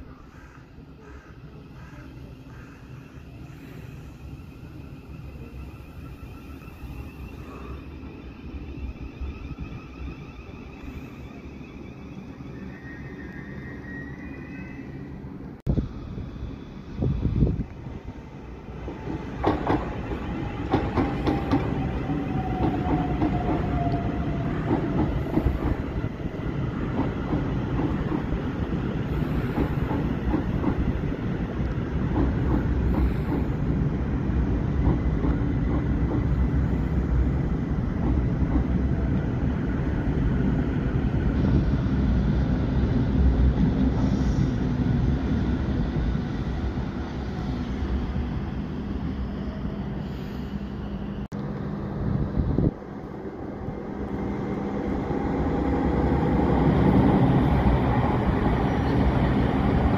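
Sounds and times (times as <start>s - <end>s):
falling train whine: 0.0s - 59.9s
train wheels rumbling on rail: 0.0s - 59.9s.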